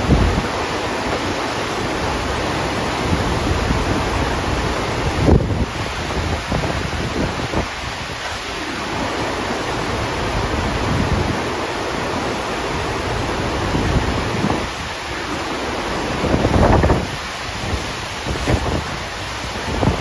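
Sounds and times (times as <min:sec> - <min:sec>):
rushing water flowing up a ramp: 0:00.0 - 0:20.0
wind buffeting microphone: 0:00.0 - 0:20.0.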